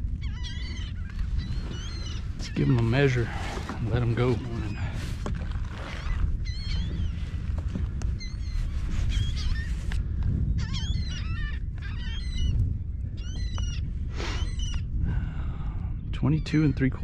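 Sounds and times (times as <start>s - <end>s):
birds squawking overhead: 0.0s - 16.8s
steady low rumble: 0.0s - 17.0s.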